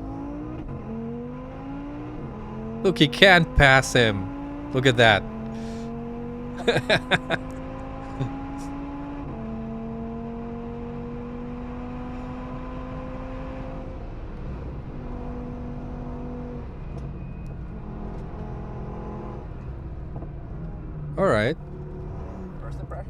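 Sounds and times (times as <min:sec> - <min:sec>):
car engine accelerating: 0:00.0 - 0:06.8, 0:07.4 - 0:23.0.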